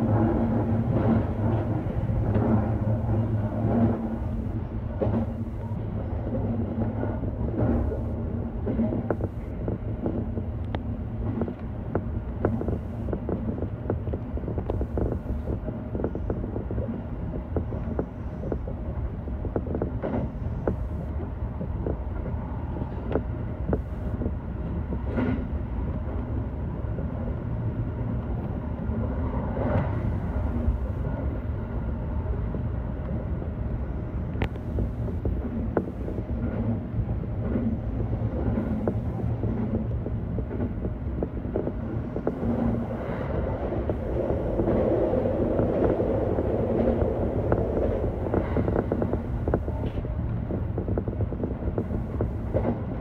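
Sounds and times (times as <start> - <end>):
train creaks: 0.0 - 24.3, 34.3 - 53.0
train low rumble: 0.0 - 53.0.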